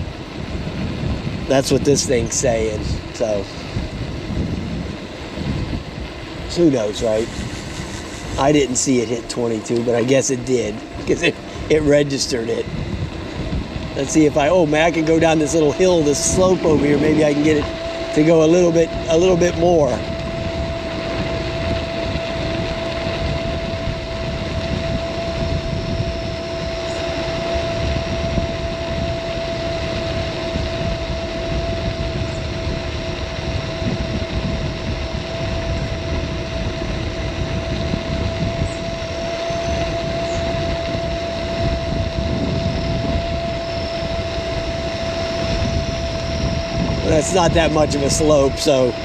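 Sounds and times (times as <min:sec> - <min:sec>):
steady high whine: 0:00.0 - 0:49.0
wind buffeting microphone: 0:00.0 - 0:49.0.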